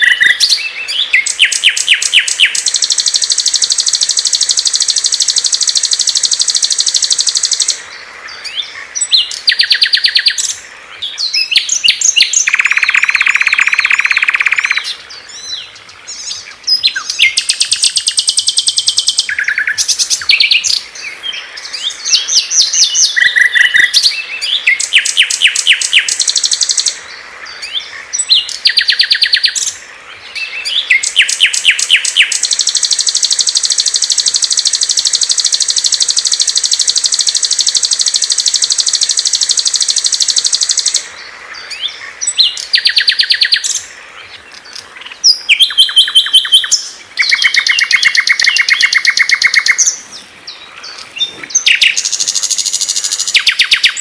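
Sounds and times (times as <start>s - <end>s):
long high bird trill: 0.0s - 7.8s, 8.4s - 10.6s, 11.4s - 15.5s, 16.2s - 20.9s, 21.7s - 27.0s, 27.6s - 29.8s, 30.4s - 41.1s, 41.7s - 43.9s, 45.2s - 50.0s, 51.5s - 54.0s
songbirds trilling and chattering: 0.0s - 54.0s.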